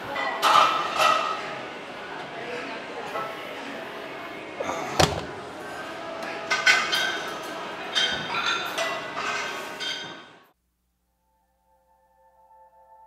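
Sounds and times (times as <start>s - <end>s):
busy gym background noise: 0.0s - 10.6s.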